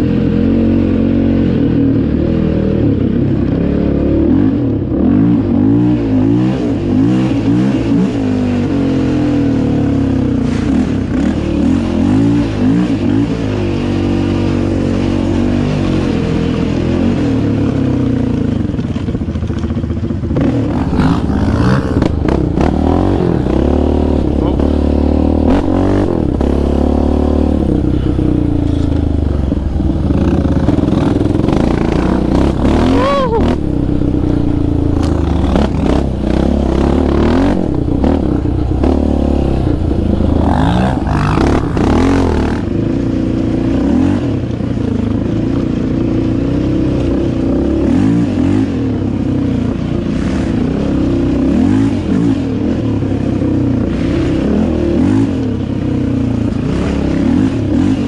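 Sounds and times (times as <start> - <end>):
quad engine revving: 0.0 - 18.6, 20.2 - 44.5, 46.3 - 58.0.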